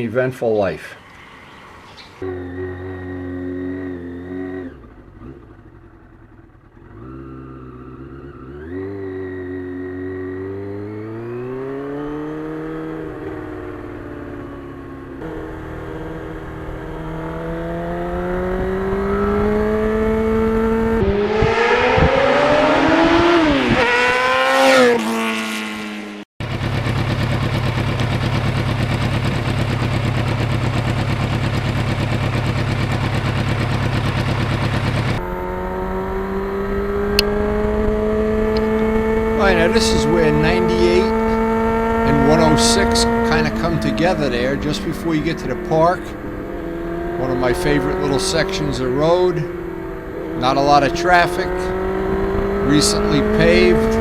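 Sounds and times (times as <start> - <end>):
motorcycle engine accelerating: 1.0 - 54.0.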